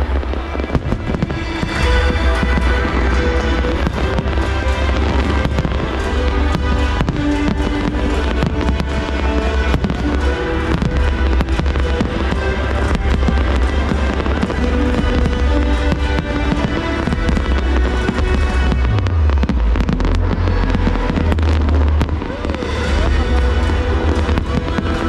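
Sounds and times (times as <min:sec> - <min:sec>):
fireworks bangs: 0:00.0 - 0:25.0
low rumble: 0:00.0 - 0:25.0
music playing: 0:00.0 - 0:25.0.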